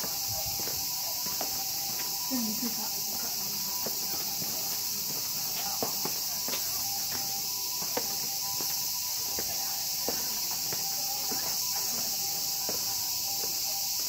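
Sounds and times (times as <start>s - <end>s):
high-pitched insect chorus: 0.0s - 14.0s
walking footsteps: 0.0s - 14.0s.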